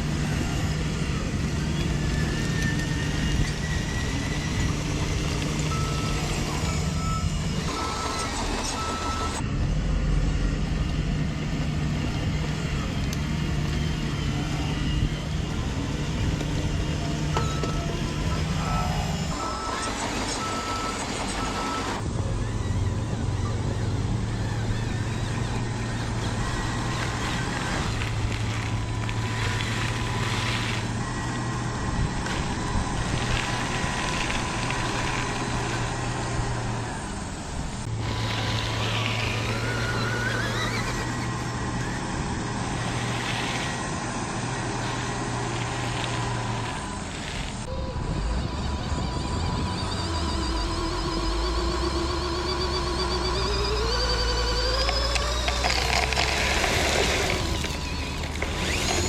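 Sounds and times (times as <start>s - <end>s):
toy vehicle motor running: 0.0s - 9.4s, 10.8s - 59.0s
rising motor whine: 0.0s - 59.0s.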